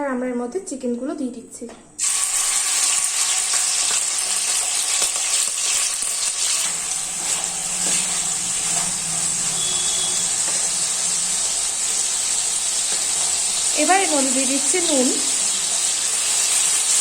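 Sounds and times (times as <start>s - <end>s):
chicken sizzling in oil: 2.0s - 17.0s.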